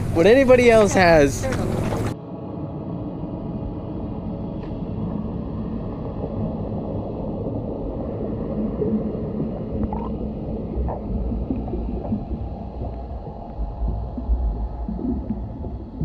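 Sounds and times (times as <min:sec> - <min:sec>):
low rumbling underwater noise: 0:00.0 - 0:16.0.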